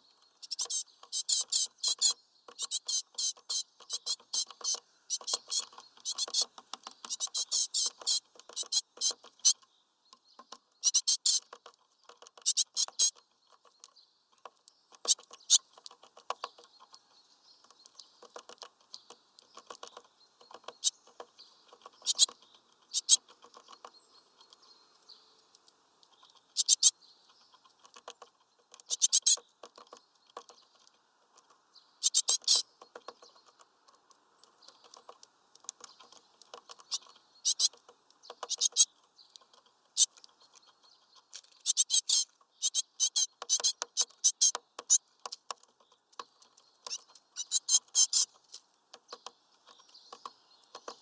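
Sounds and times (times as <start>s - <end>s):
birds pecking at wooden feeder: 0.1s - 51.0s.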